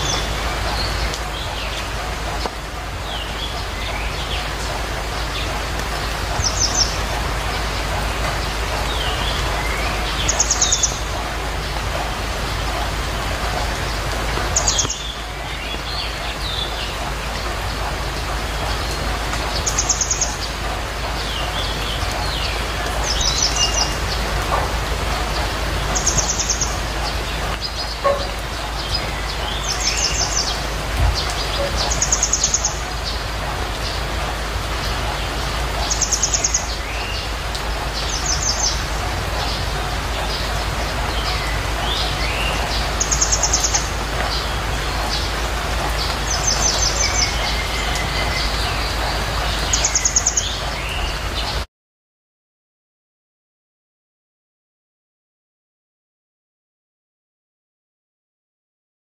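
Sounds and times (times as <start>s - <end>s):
birds chirping: 0.0s - 51.7s
steady rain: 0.0s - 51.7s.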